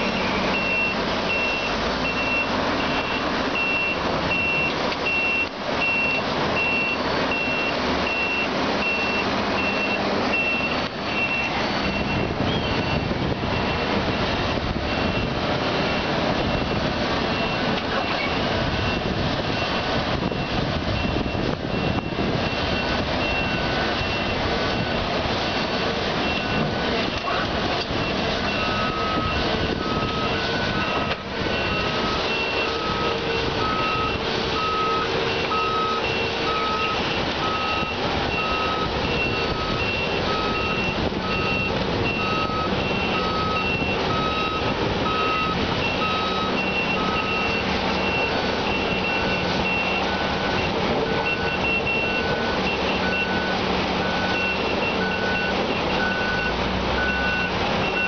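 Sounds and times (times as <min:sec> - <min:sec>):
back-up alarm beeping: 0:00.0 - 0:25.1, 0:25.8 - 0:58.0
excavator diesel engine running: 0:00.0 - 0:58.0.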